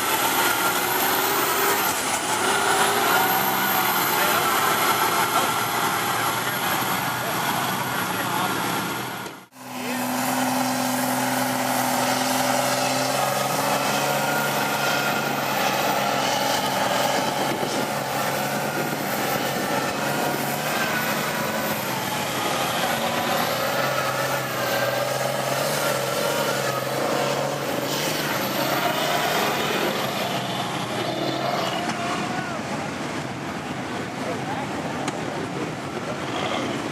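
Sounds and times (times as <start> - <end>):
truck engines running: 0.0 - 36.9.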